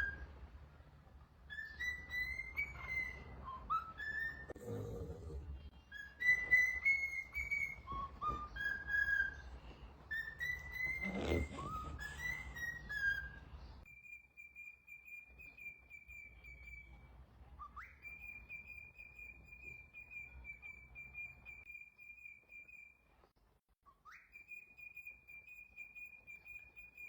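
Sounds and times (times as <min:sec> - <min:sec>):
parrot whistling: 0:00.0 - 0:00.5, 0:01.4 - 0:04.6, 0:05.8 - 0:17.0, 0:17.6 - 0:23.0, 0:24.0 - 0:27.0.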